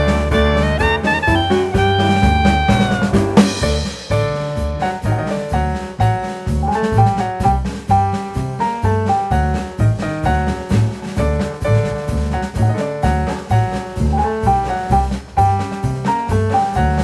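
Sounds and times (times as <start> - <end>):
upbeat jazzy instrumental music: 0.0 - 17.0.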